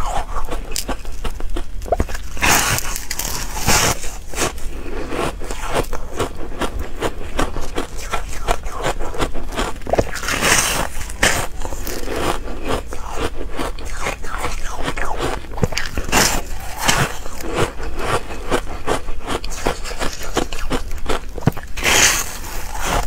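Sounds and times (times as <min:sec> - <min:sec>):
crunching and chewing shaved ice: 0:00.0 - 0:23.0.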